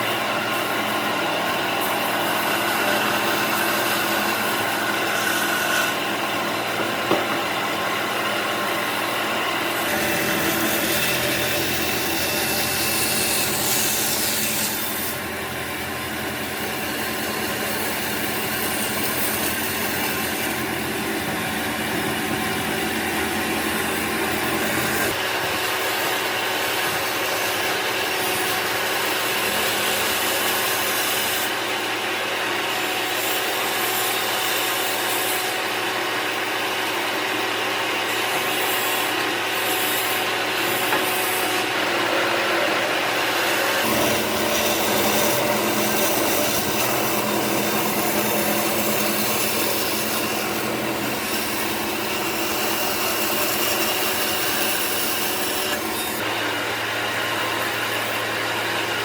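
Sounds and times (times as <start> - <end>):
tool scraping wood: 0.0 - 59.0.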